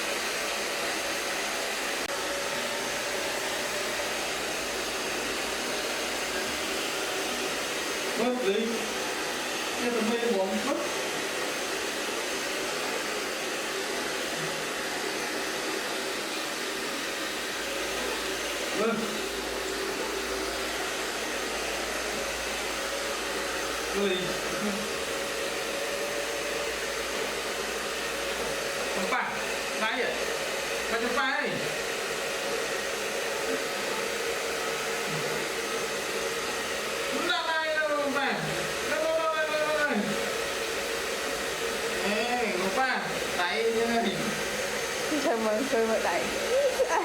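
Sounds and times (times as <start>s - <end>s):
hair dryer blowing air: 0.0s - 47.0s.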